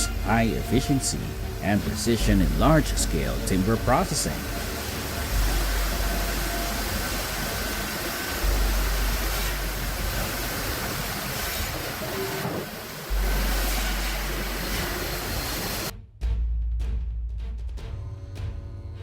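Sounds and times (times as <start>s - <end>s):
sawmill machinery running: 0.0s - 15.9s.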